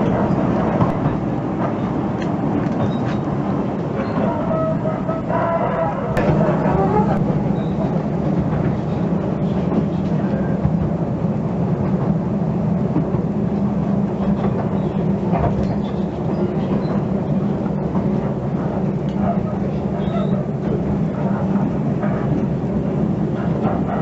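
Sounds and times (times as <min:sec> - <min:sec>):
rail noise: 0:00.0 - 0:24.0
train rumbling: 0:00.0 - 0:24.0.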